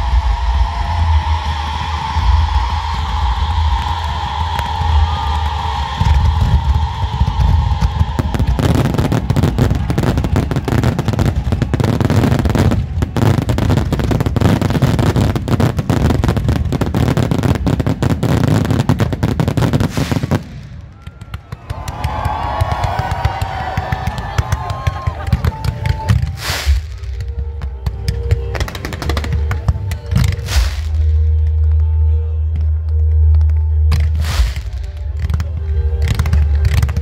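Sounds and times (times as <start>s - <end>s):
music: 0.0s - 20.6s, 21.2s - 37.0s
fireworks bangs and crackles: 0.0s - 31.8s, 32.5s - 37.0s.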